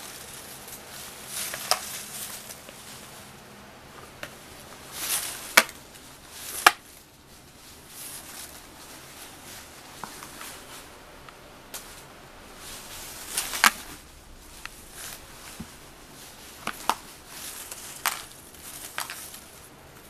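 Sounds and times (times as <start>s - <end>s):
cat scuffling and rustling: 0.0s - 20.0s.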